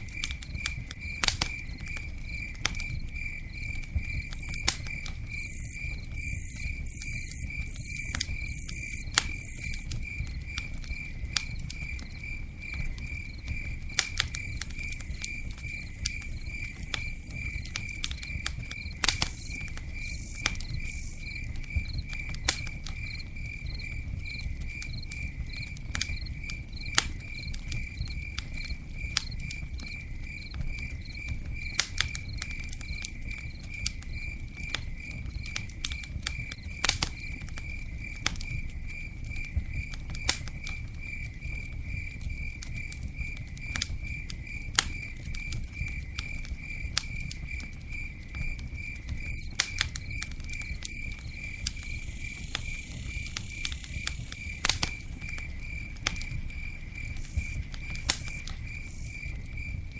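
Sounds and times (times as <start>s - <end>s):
campfire crackling and popping: 0.0s - 59.9s
cricket chirping: 0.0s - 59.9s.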